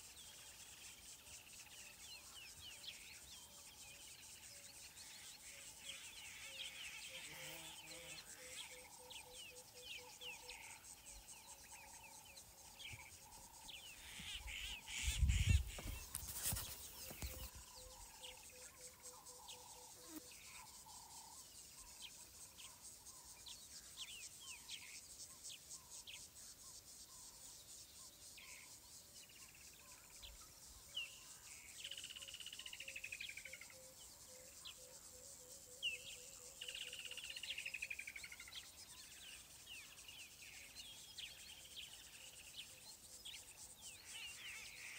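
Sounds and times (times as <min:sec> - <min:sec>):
insects buzzing: 0:00.0 - 0:44.9
small birds chirping: 0:00.0 - 0:44.9.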